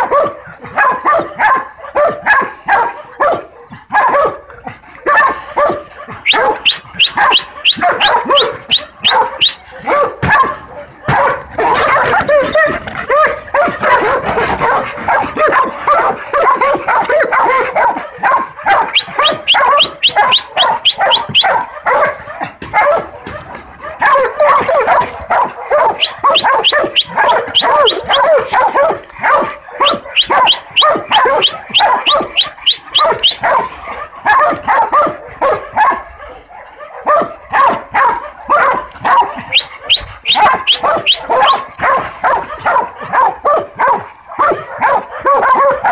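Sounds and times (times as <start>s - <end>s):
dogs barking rapidly: 0.0s - 45.9s.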